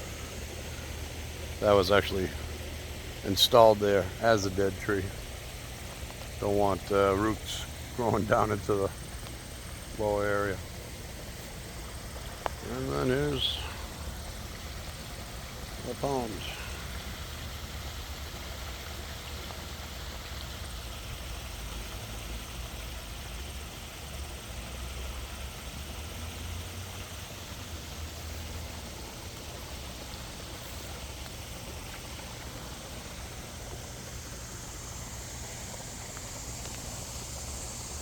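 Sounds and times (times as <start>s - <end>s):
waterfall splashing into pond: 0.0s - 38.0s.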